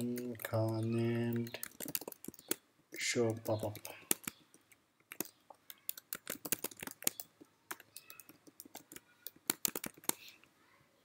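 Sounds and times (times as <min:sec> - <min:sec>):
typing on computer keyboard: 0:00.0 - 0:02.6, 0:03.2 - 0:10.2.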